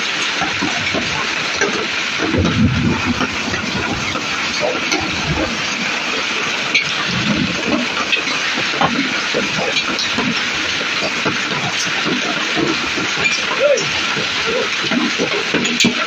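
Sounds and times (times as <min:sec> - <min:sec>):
hailstones striking: 0:00.0 - 0:16.0
heavy rain hissing: 0:00.0 - 0:16.0.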